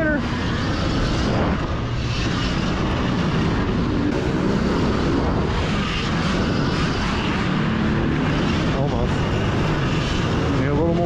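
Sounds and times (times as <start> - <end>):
electric dirt bike running: 0.0 - 11.0
wind rushing: 0.0 - 11.0.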